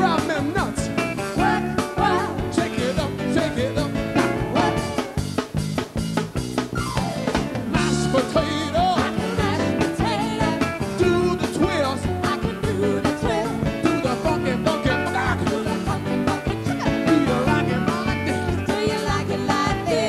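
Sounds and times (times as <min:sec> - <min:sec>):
male lead singer: 0:00.0 - 0:05.2, 0:07.7 - 0:20.0
drums: 0:00.0 - 0:20.0
electric bass: 0:00.0 - 0:20.0
keyboards: 0:00.0 - 0:20.0
backing singers: 0:01.3 - 0:05.2, 0:07.8 - 0:20.0.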